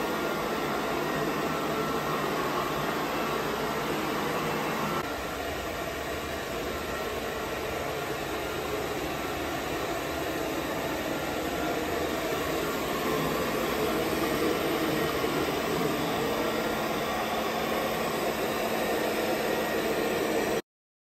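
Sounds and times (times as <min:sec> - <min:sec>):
cleaning robot vacuum running: 0:00.0 - 0:20.6.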